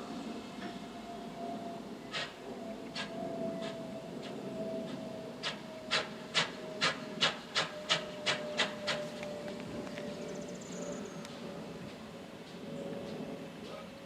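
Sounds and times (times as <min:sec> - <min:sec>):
train rasping beats: 0:00.0 - 0:12.7.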